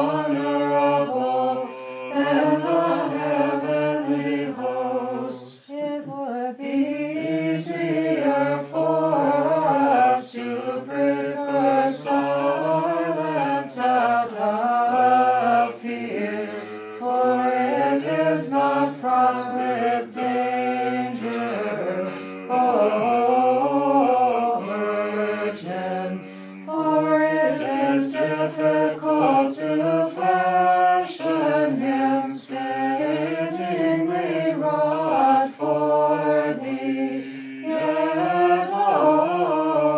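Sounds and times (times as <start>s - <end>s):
unaccompanied voices chanting: 0.0s - 39.9s.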